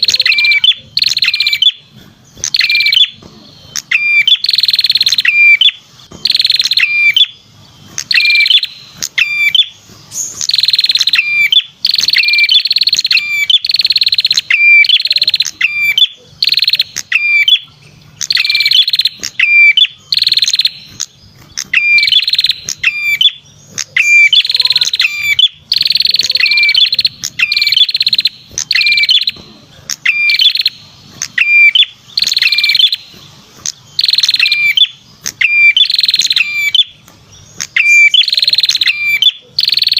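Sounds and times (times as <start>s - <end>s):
bird singing sharp trills: 0.0s - 39.9s.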